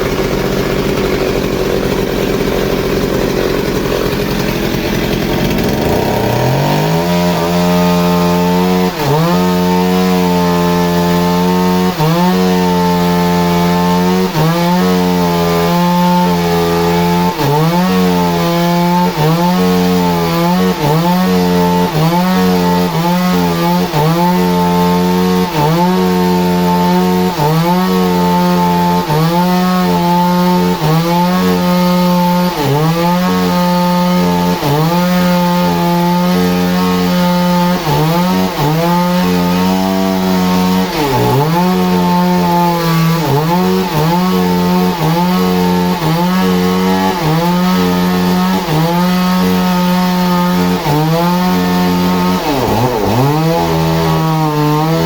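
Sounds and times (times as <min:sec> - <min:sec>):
engine saw cutting wood: 0:00.0 - 0:55.0.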